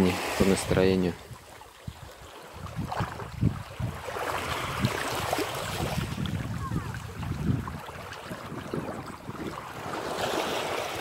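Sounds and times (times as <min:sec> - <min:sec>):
waves lapping on pebbles: 0:00.0 - 0:11.0
wind on microphone: 0:00.4 - 0:11.0.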